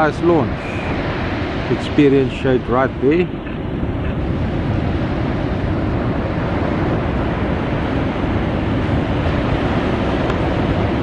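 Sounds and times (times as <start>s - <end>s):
outboard motors running hard: 0.0s - 11.0s
waves breaking: 0.0s - 11.0s.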